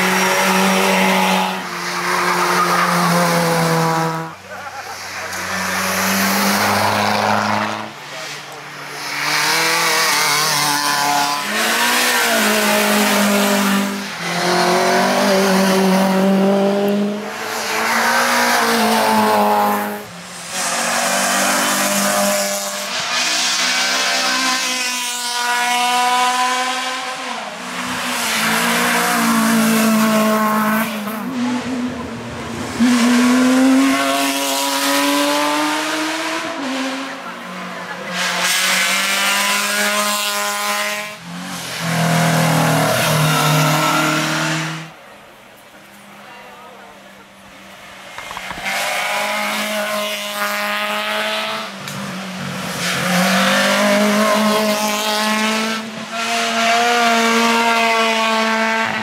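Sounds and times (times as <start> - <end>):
race car engine at full throttle: 0.0 - 59.0.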